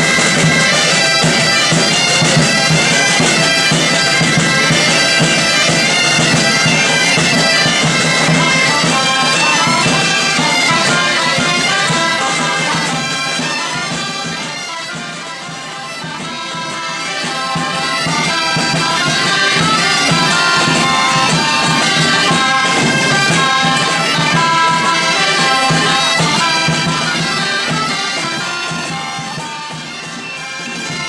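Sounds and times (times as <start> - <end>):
bagpipes playing a tune: 0.0 - 31.0.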